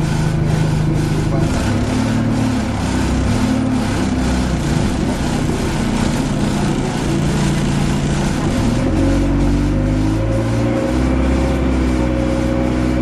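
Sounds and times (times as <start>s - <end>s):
bus diesel engine running: 0.0s - 13.0s
loud engine ticking: 0.0s - 13.0s.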